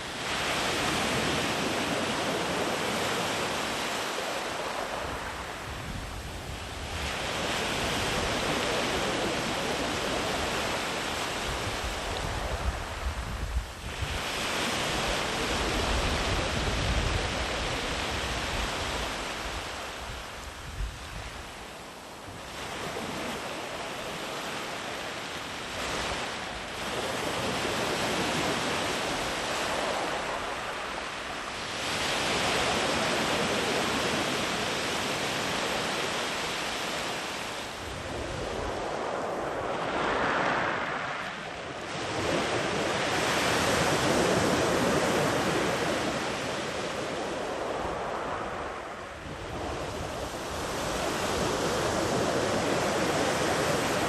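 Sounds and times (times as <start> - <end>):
wind on microphone: 0.0 - 36.0, 36.6 - 54.0
waves breaking on sand beach: 0.0 - 54.0.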